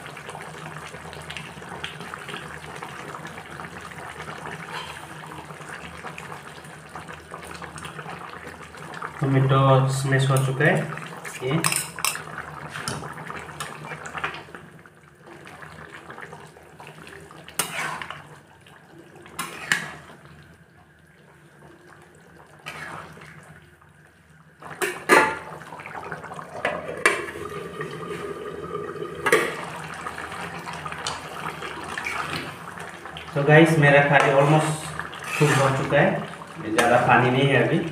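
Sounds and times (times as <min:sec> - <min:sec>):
curry bubbling in a wok: 0:00.0 - 0:09.5, 0:12.0 - 0:28.1, 0:28.7 - 0:37.9.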